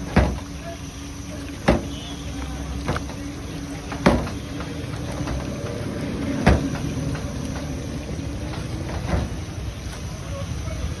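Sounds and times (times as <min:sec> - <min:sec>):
steady rumble with low hum: 0:00.0 - 0:11.0.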